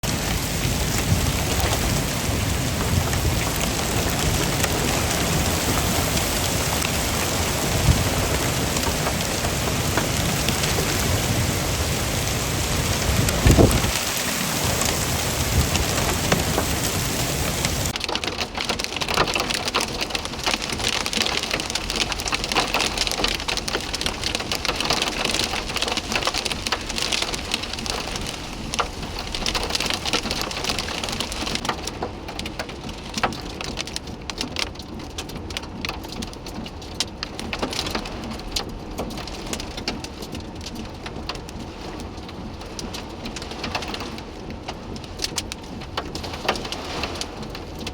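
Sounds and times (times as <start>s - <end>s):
heavy rain pelting down: 0.0s - 47.9s.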